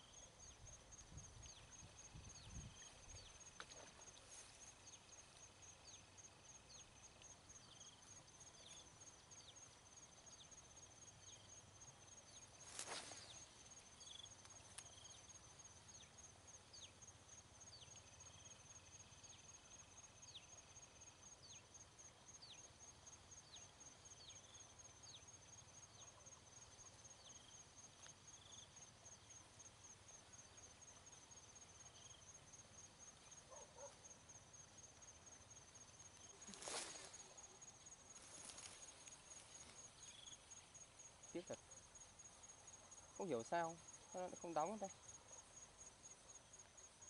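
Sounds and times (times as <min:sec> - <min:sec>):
crickets trilling: 0:00.0 - 0:47.0.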